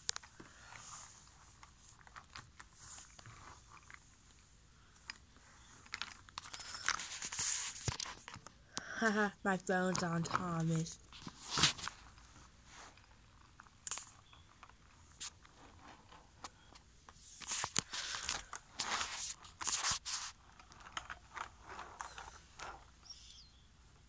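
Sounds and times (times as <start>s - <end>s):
scraping rustles: 0.0s - 8.5s, 9.9s - 23.4s.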